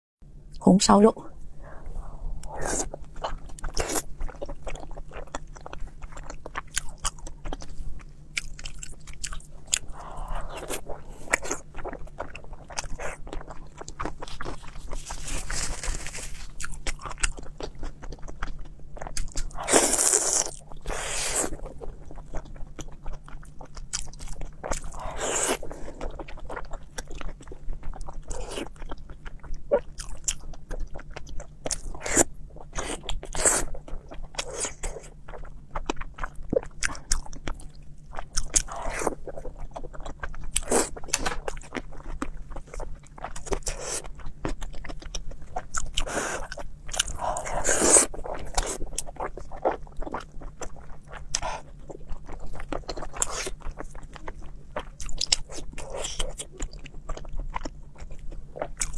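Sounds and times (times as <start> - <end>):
person biting and chewing: 2.4 - 58.9.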